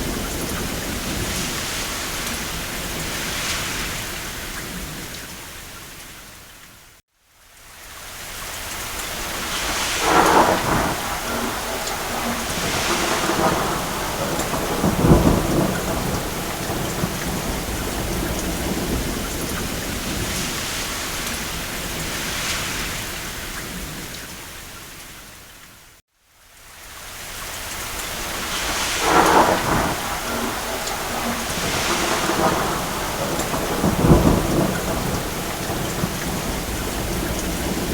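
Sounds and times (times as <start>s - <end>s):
thunder rumbling: 0.0s - 5.4s, 9.0s - 24.2s, 28.0s - 37.9s
steady rain: 0.0s - 37.9s.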